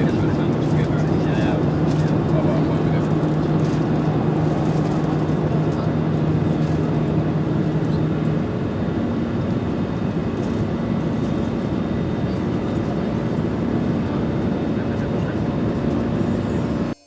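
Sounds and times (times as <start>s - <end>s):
airliner engine and airflow roar: 0.0s - 17.0s.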